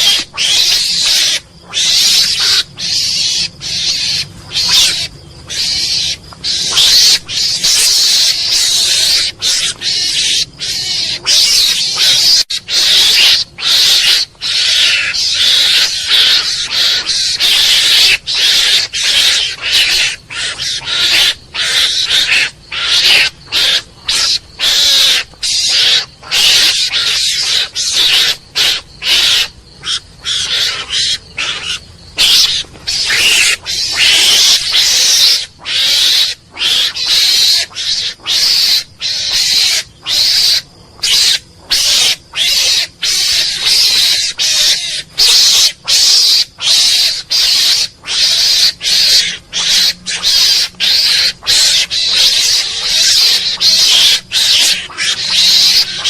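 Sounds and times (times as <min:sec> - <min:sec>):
mongoose harsh high calls: 0:00.0 - 0:56.0.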